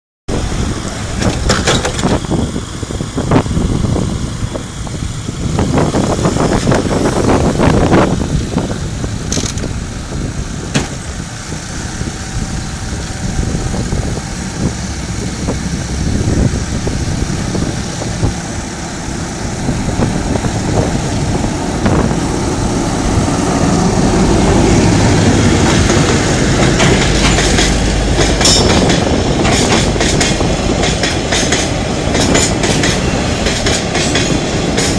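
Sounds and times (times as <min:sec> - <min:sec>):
diesel locomotive engine: 0:00.3 - 0:34.9
train wheels rolling: 0:00.4 - 0:34.9.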